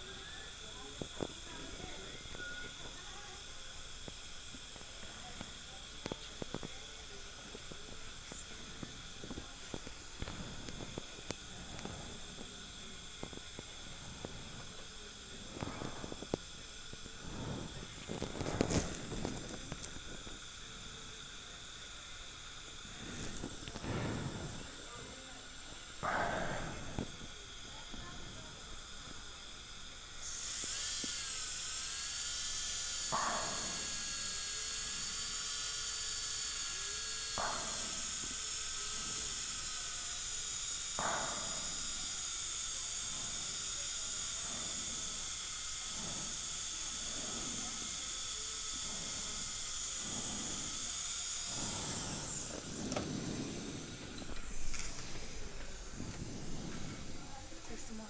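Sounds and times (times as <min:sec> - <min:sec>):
dental drill whining: 0:00.0 - 0:58.0.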